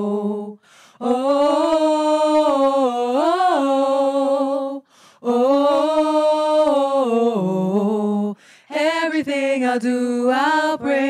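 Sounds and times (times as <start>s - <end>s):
a cappella group singing: 0.0s - 11.0s.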